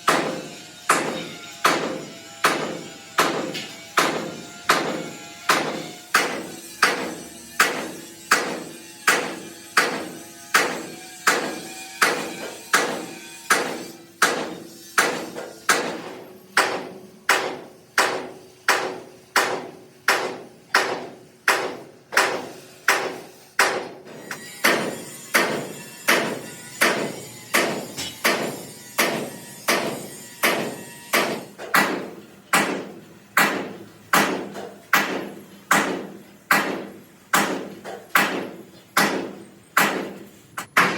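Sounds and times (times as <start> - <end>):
hammer blows on steel: 0.1 - 40.9.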